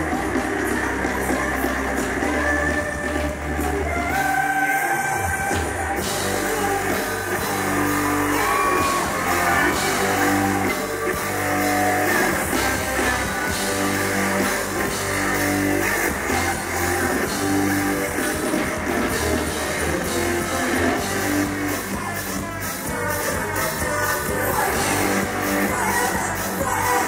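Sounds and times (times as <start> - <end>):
women singing: 0.0 - 19.8, 20.4 - 27.0
pop song with steady beat: 0.0 - 27.0.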